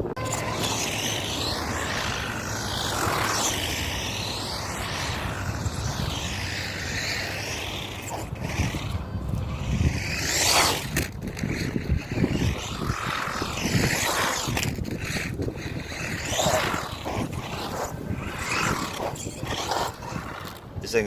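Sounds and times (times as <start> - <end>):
toy truck electric motor whining: 0.1 - 20.6.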